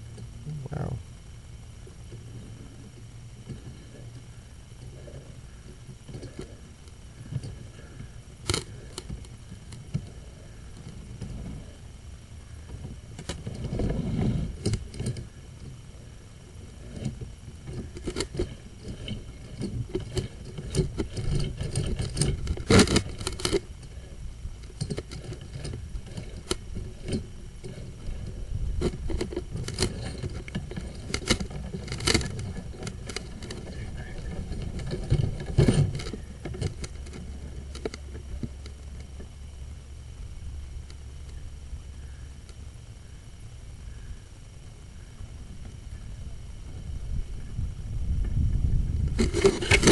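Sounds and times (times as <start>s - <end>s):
low rumble: 0.0s - 49.9s.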